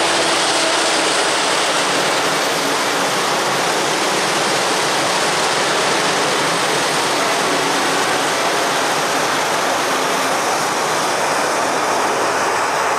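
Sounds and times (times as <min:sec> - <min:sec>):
train wagons rolling on rails: 0:00.0 - 0:12.9.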